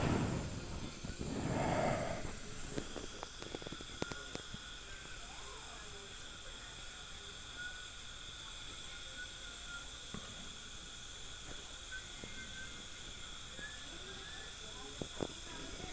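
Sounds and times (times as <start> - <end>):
dental instrument hissing burst: 0.0 - 15.9
faint high whine: 0.0 - 15.9.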